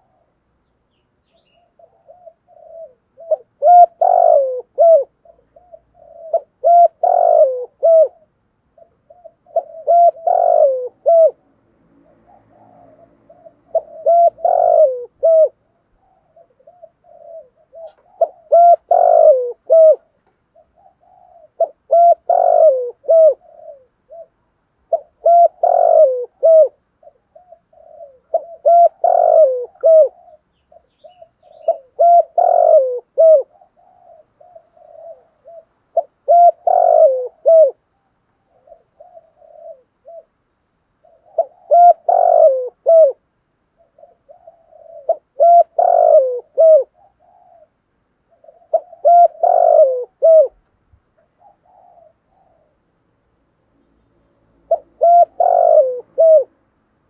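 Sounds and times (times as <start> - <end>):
dove cooing: 0.0 - 0.6, 1.2 - 53.0, 54.6 - 56.7.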